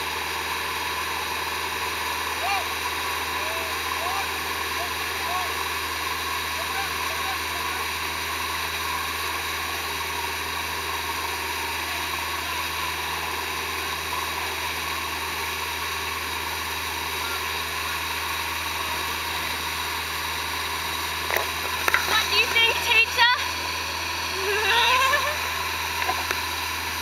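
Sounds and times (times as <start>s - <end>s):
motorboat engine running: 0.0s - 27.0s.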